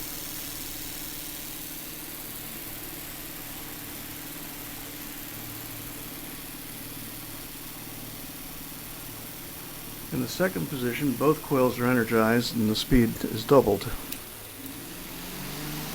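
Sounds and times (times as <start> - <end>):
electric fan motor hum: 0.0 - 15.9.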